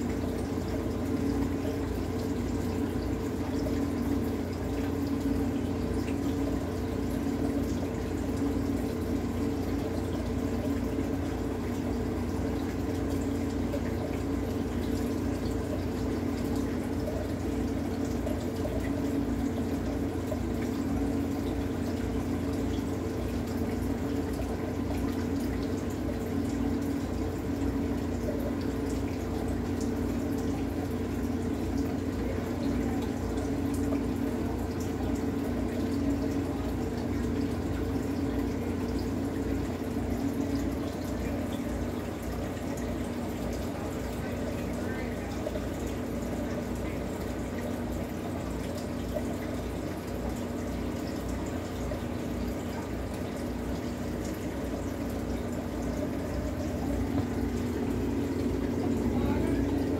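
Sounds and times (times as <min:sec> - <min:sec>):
low aquarium filter hum: 0:00.0 - 0:59.9
water trickling and bubbling: 0:00.0 - 0:59.9.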